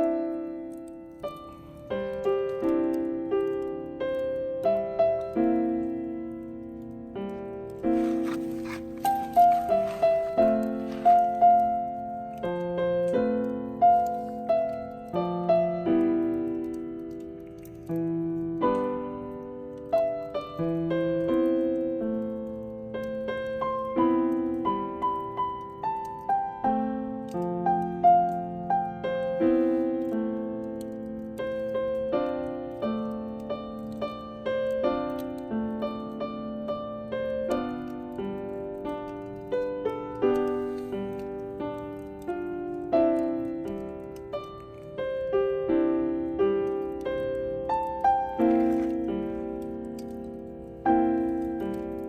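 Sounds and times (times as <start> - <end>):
piano chords and melody: 0.0 - 52.0.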